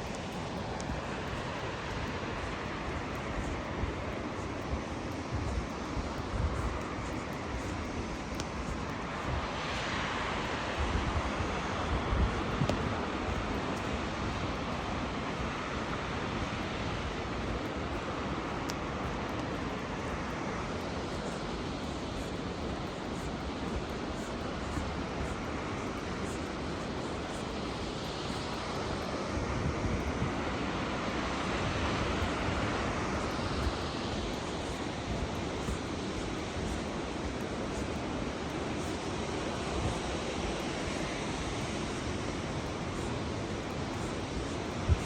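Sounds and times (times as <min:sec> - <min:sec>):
wind rumble on microphone: 0:00.0 - 0:45.0.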